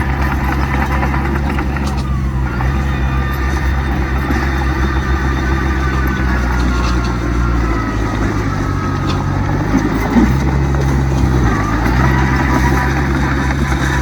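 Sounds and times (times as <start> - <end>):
heavy diesel engine revving: 0.0 - 14.0.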